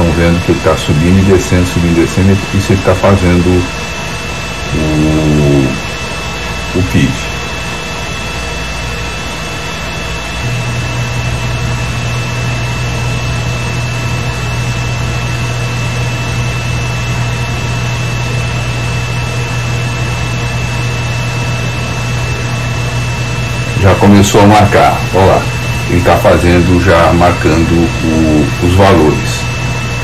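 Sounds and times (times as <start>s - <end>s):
deep mains hum: 0.0s - 30.0s
electronics fan hum: 0.0s - 30.0s
high whine: 0.0s - 30.0s.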